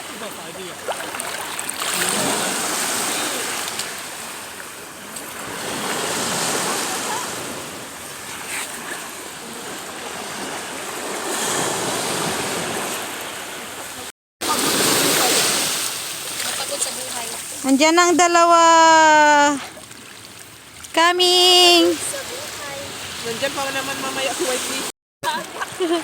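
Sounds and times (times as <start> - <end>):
sea water washing: 0.0 - 26.0.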